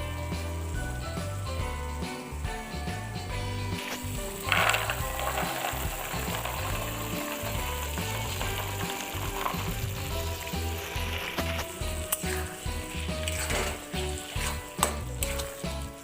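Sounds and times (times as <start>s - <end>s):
background music with steady beat: 0.0s - 16.0s
food sizzling in a pan: 0.0s - 16.0s.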